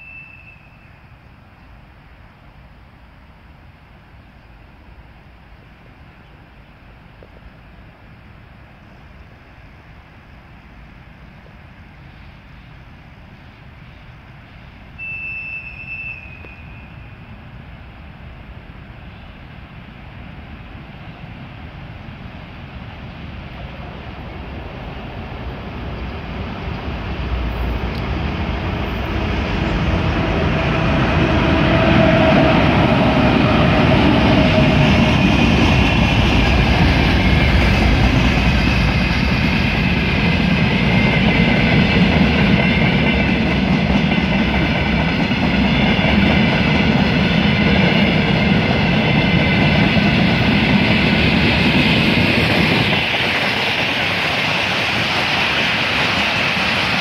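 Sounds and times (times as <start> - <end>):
diesel locomotive passing: 0.0 - 57.0.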